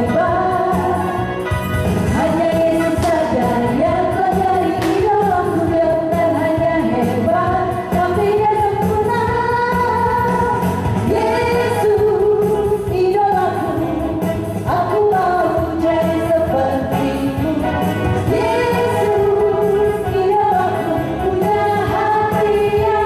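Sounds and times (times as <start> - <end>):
children's song sung by voices: 0.0 - 1.2, 2.1 - 23.0
upbeat instrumental backing: 0.0 - 23.0.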